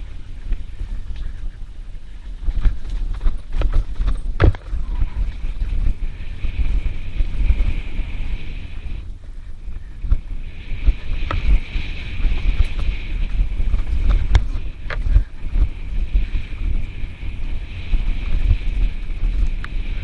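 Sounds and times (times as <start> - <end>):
steady high whir: 0.0 - 20.0
wind rumble on microphone: 0.0 - 20.0
bike knocking and rattling on bumps: 2.3 - 8.0, 9.6 - 20.0.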